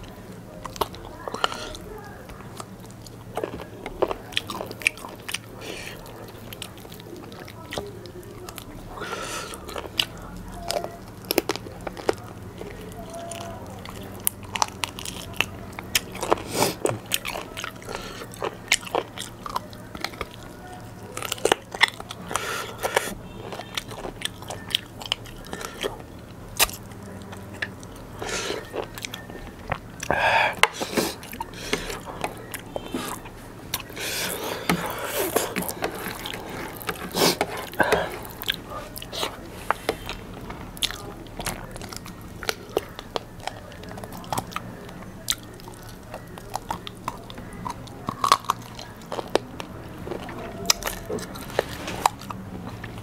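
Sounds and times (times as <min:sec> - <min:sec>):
biting and chewing food: 0:00.0 - 0:53.0.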